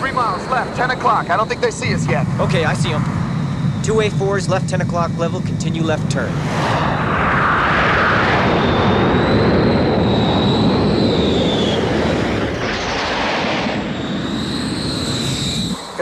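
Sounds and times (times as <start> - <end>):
high engine whine: 0.0 - 16.0
jet engine rush: 0.0 - 16.0.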